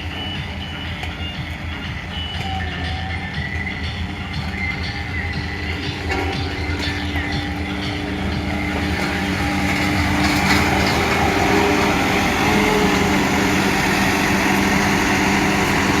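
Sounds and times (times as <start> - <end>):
road roller diesel engine: 0.0 - 16.0.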